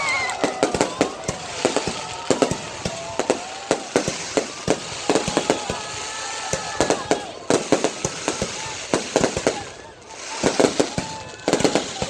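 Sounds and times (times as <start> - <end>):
fireworks bangs and pops: 0.0 - 12.0
fireworks crackling hiss: 0.0 - 12.0
fireworks whistling: 0.0 - 12.0.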